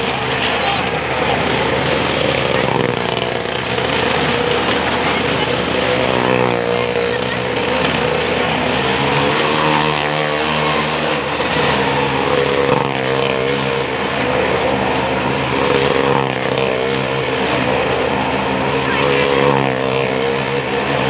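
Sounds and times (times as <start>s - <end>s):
car and motorcycle engines droning: 0.0s - 21.0s.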